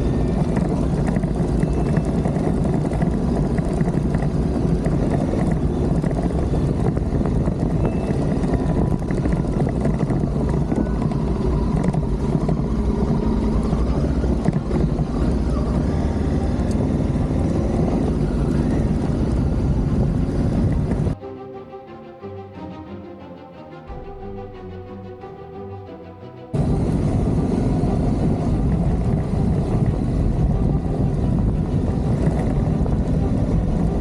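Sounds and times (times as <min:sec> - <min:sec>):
motorcycle engine running: 0:00.0 - 0:21.2, 0:26.5 - 0:34.0
wind noise on microphone: 0:00.0 - 0:21.2, 0:26.5 - 0:34.0.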